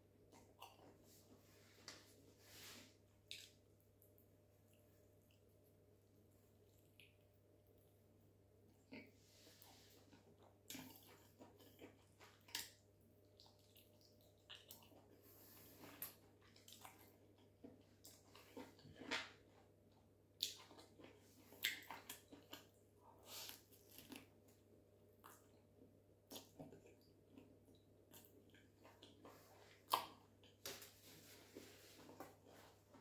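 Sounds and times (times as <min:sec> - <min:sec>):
person chewing food: 0:00.2 - 0:02.2, 0:03.1 - 0:08.0, 0:08.7 - 0:33.0.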